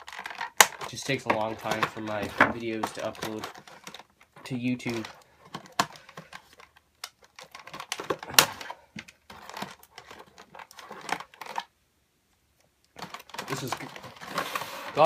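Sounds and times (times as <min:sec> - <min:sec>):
plastic packaging crinkling: 0:00.0 - 0:11.7, 0:12.9 - 0:15.0.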